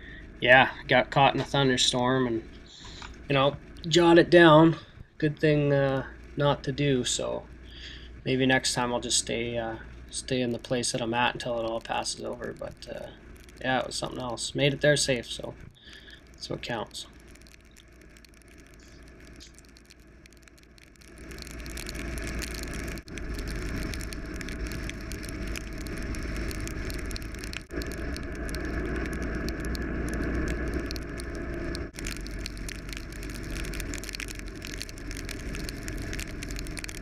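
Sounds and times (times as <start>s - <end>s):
motorcycle engine rumble: 0.0s - 37.0s
rain: 0.0s - 37.0s
road noise: 0.0s - 37.0s
wind: 0.0s - 37.0s.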